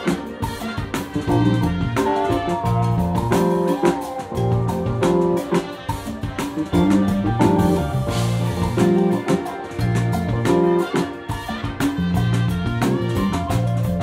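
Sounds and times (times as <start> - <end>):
drum kit beat: 0.0 - 14.0
electric guitar: 0.0 - 14.0
keyboards: 0.0 - 14.0
saxophone: 0.0 - 14.0
trumpet: 0.0 - 14.0
bass notes: 1.0 - 14.0.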